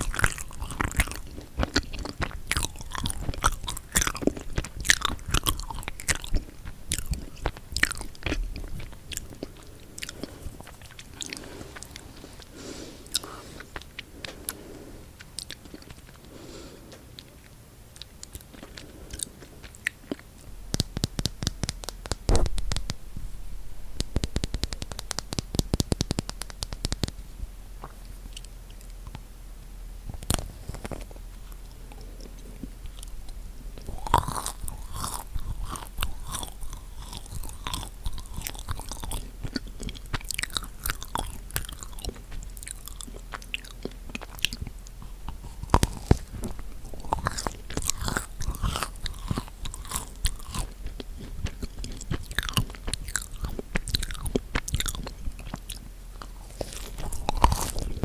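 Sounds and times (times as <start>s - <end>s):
crunching bites: 0.0s - 14.6s, 18.0s - 23.0s, 24.0s - 27.2s, 30.2s - 58.0s
chewing: 0.0s - 22.8s, 27.8s - 29.2s, 30.2s - 58.0s.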